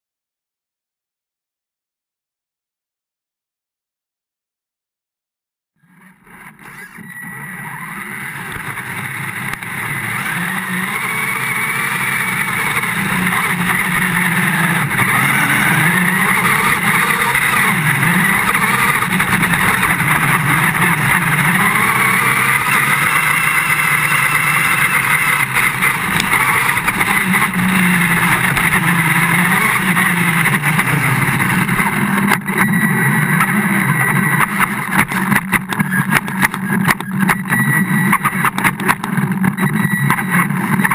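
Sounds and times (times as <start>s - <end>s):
toy truck motor running: 5.8s - 40.9s.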